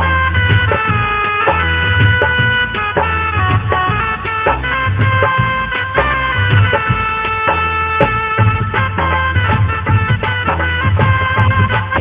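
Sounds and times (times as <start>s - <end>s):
low bass: 0.0s - 12.0s
steady drum beat: 0.0s - 12.0s
sustained melody line: 0.0s - 12.0s.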